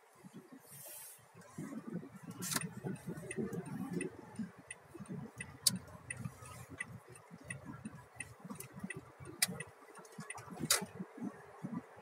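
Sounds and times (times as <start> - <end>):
car cabin rumble: 1.4 - 12.0
turn signal ticking: 1.4 - 12.0.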